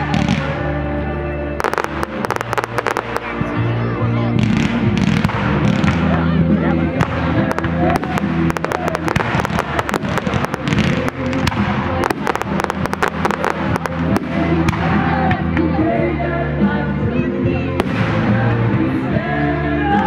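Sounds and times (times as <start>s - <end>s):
fireworks bangs and crackles: 0.0s - 0.8s, 1.6s - 15.8s, 17.8s - 18.8s
music playing: 0.0s - 20.0s.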